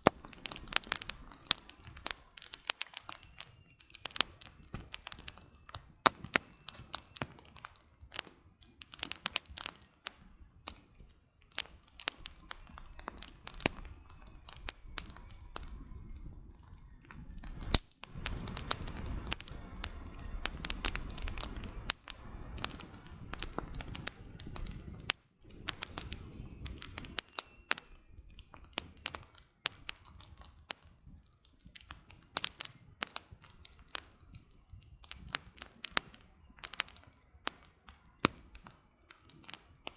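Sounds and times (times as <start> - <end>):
campfire crackling and popping: 0.0 - 39.9
low rushing of flames: 0.0 - 39.9.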